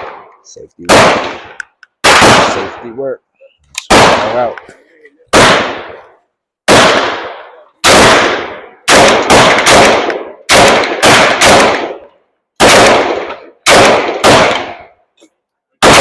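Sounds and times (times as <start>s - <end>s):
loud gunshots with echo: 0.0s - 3.0s, 3.9s - 4.6s, 5.3s - 15.0s, 15.8s - 16.0s.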